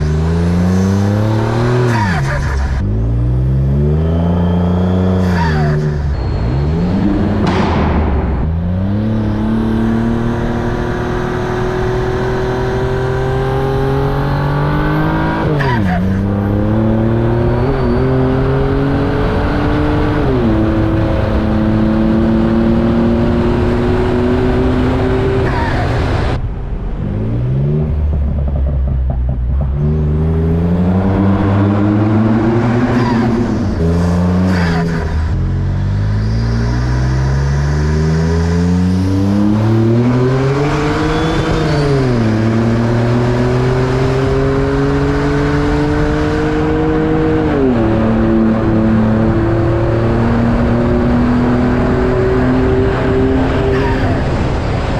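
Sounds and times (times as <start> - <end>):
van engine accelerating hard: 0.0 - 54.9.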